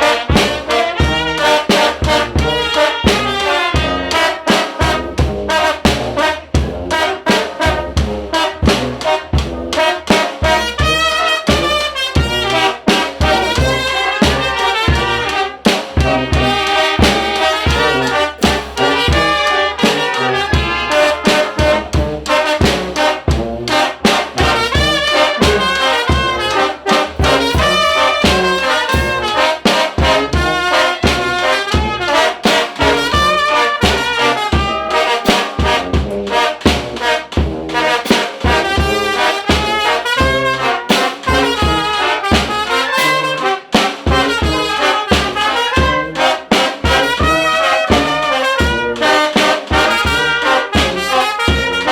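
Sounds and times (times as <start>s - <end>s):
brass band playing: 0.0s - 51.9s.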